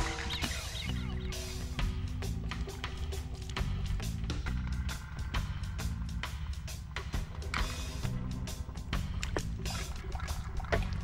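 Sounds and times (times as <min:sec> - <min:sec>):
low bass line: 0:00.0 - 0:11.0
music with steady beat: 0:00.0 - 0:11.0.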